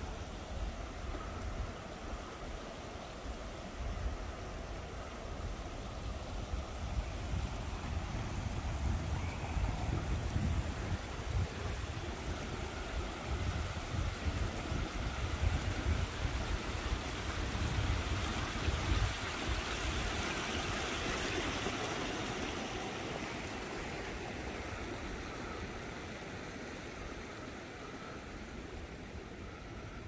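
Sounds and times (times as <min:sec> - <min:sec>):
stream running over stones: 0:00.0 - 0:29.8.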